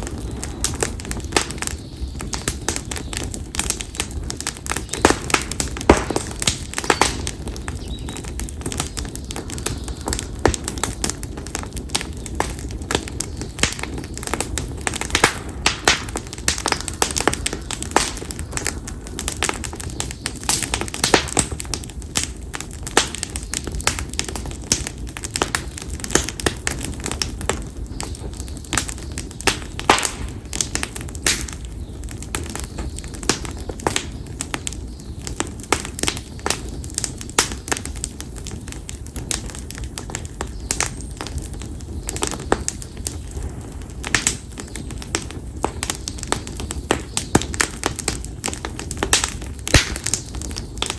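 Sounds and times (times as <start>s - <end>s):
campfire crackling and popping: 0.0s - 50.9s
low rush of flame: 0.0s - 50.9s.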